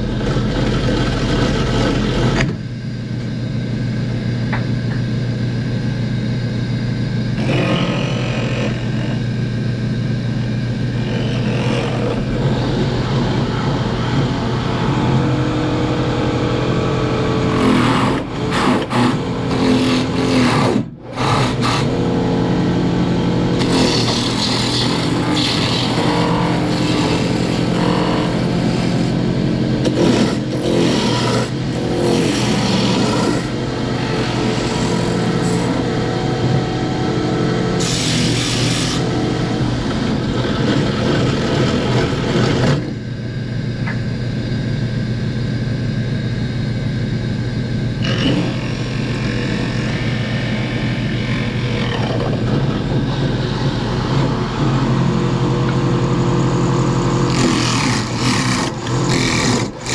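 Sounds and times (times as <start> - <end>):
motor humming: 0.0 - 44.2, 45.9 - 59.9.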